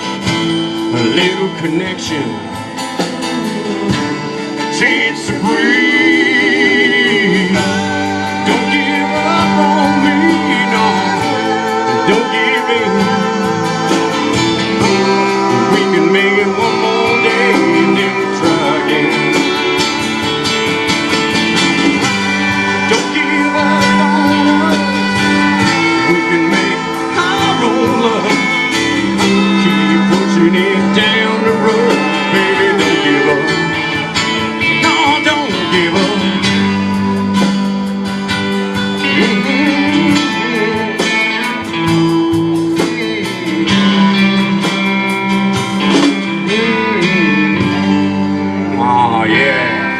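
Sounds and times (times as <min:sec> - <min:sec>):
country-rock band playing: 0:00.0 - 0:49.9
wavering lead guitar line: 0:00.0 - 0:49.9.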